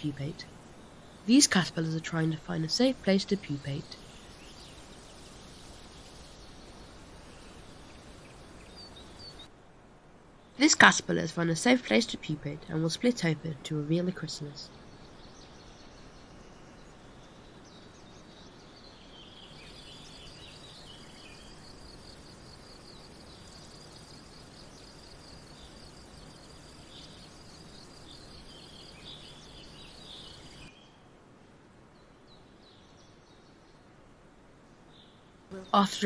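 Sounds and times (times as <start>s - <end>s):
small birds chirping: 0.0s - 9.5s, 10.3s - 31.0s, 34.7s - 36.0s
steady hiss: 0.0s - 12.1s, 14.7s - 31.9s.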